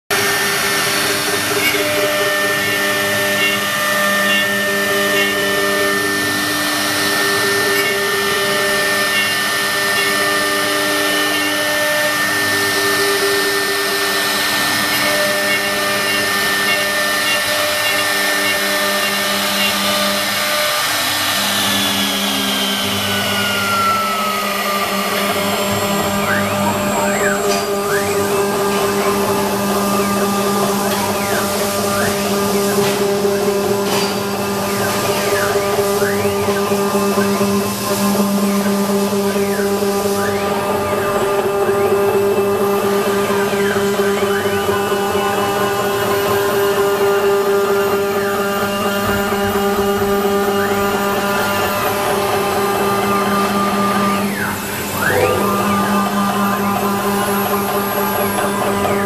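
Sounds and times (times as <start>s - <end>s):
cnc router spindle whine: 0.1s - 59.0s
low machine hums: 0.1s - 59.0s.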